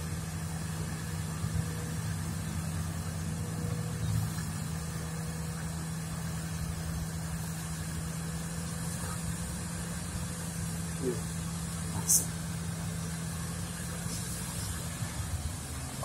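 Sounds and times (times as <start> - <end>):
heavy diesel engines running: 0.0 - 16.0.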